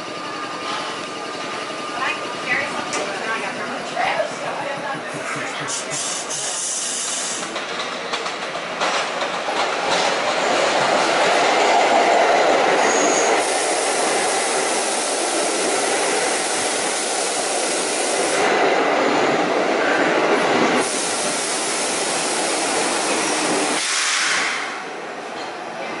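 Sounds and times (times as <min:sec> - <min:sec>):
subway train wheels rumbling on rails: 0:00.0 - 0:26.0.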